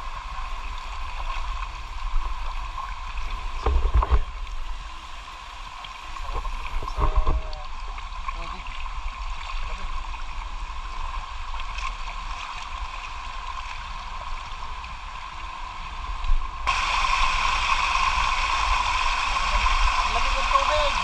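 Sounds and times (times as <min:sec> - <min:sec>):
stream running over rock: 0:00.0 - 0:21.0
water cascade: 0:00.0 - 0:21.0.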